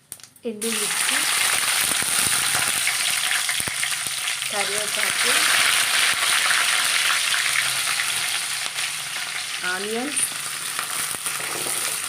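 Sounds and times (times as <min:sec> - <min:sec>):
sharp crackles: 0:00.0 - 0:08.7, 0:09.6 - 0:12.0
spices sizzling in hot oil: 0:00.1 - 0:12.0.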